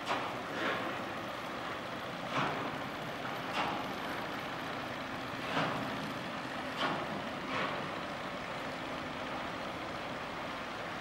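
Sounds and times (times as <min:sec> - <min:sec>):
ship passing with low hum: 0:00.0 - 0:11.0.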